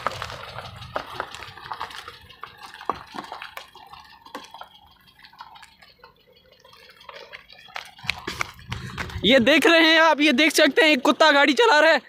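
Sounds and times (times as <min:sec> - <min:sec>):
tyres crunching on gravel: 0:00.0 - 0:12.0.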